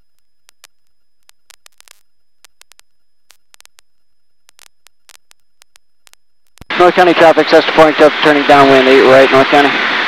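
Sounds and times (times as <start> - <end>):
radio static clicks and crackles: 0.0 - 9.8
faint high whine: 0.0 - 10.0.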